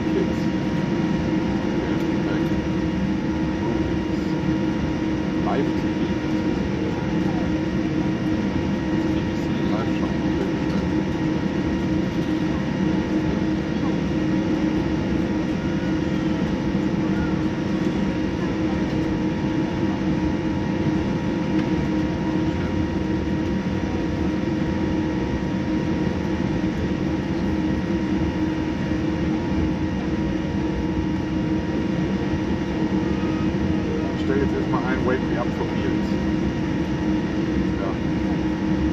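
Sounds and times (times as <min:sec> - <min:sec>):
aircraft cabin rumble: 0:00.0 - 0:38.9
steady humming tones: 0:00.0 - 0:38.9.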